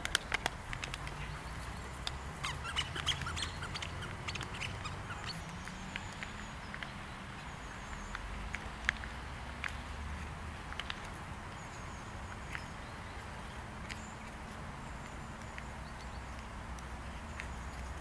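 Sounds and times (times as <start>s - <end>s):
light ticks: 0.0s - 18.0s
small birds chirping: 0.0s - 18.0s.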